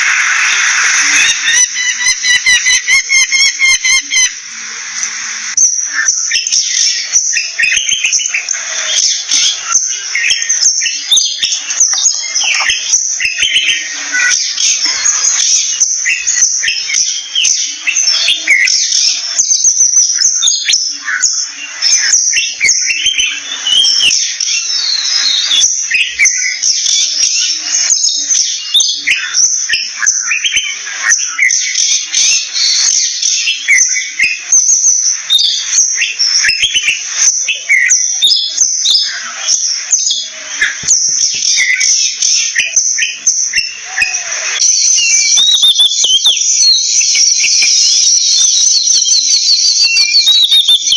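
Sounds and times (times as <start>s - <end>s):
magpie chirping and chattering: 0.0s - 4.4s, 5.7s - 50.9s.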